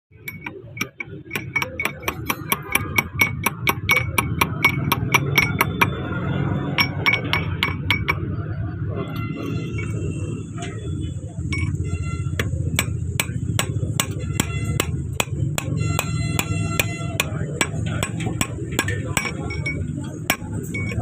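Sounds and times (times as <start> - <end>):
hammer tapping on metal: 0.1 - 6.1, 6.7 - 8.3, 11.5 - 21.0.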